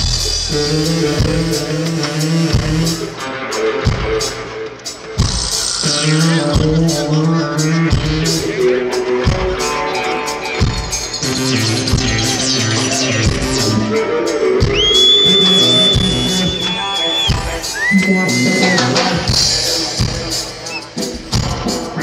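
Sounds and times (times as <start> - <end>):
amplified live band playing: 0.0 - 22.0.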